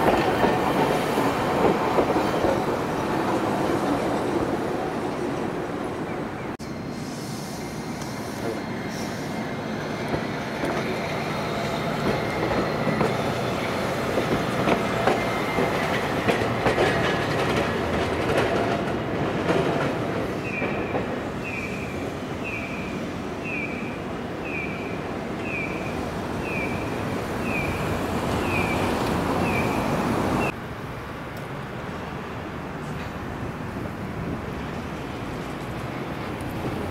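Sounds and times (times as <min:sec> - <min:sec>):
tram wheels squealing on rails: 0:00.0 - 0:30.6
street noise: 0:00.0 - 0:36.9.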